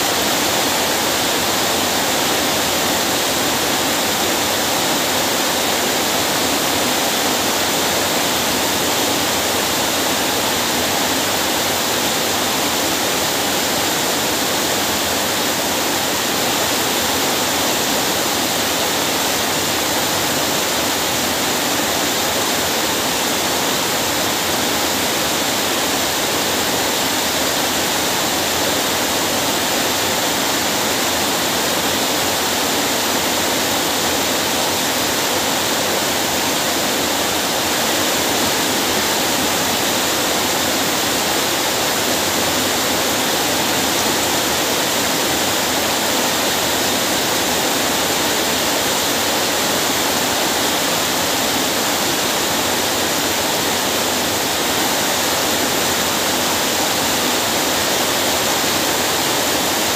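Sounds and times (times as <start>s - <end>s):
heavy rain hissing: 0.0s - 59.9s.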